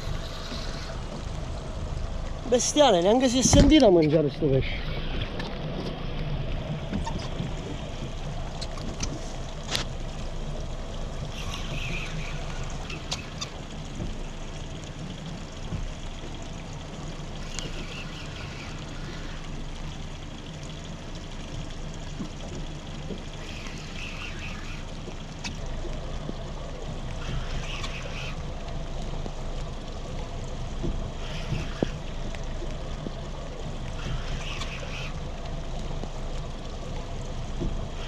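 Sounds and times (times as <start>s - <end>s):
outboard motor idling: 0.0s - 38.0s
steady rain: 0.0s - 38.0s.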